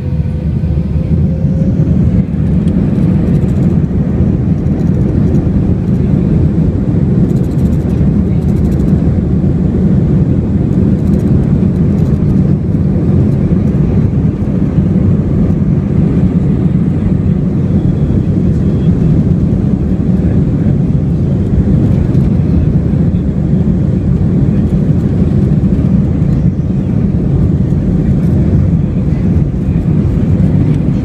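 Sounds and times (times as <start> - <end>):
jet engines at high power: 0.0 - 31.0.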